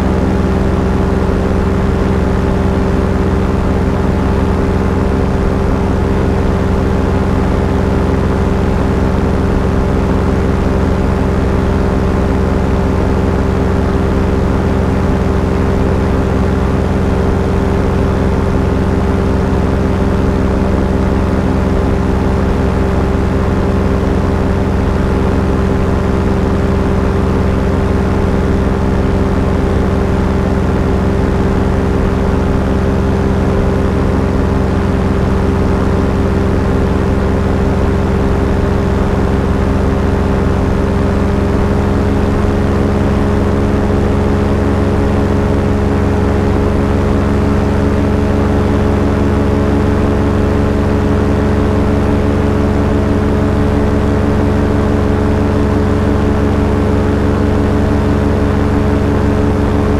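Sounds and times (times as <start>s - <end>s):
small aircraft engine drone: 0.0s - 59.9s.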